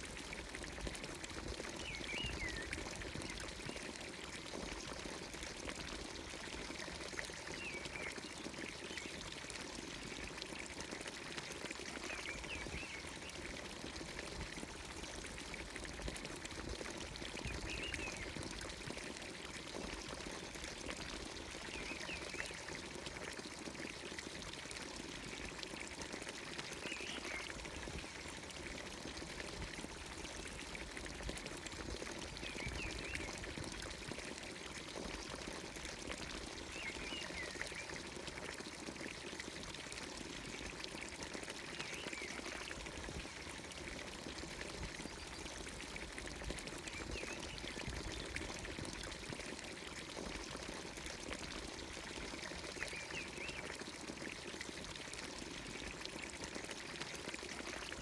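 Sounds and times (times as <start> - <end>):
water pouring from fountain spout: 0.0 - 58.0.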